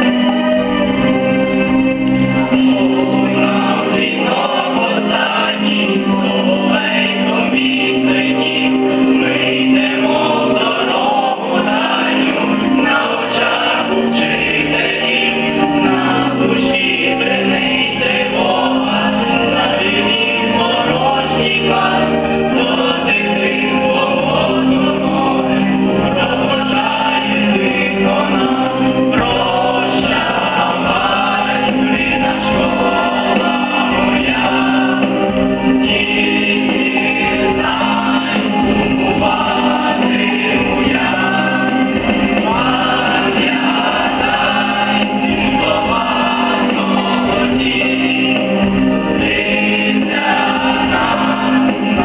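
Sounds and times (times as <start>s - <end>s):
instrumental accompaniment: 0.0s - 52.0s
mixed choir singing: 0.0s - 52.0s.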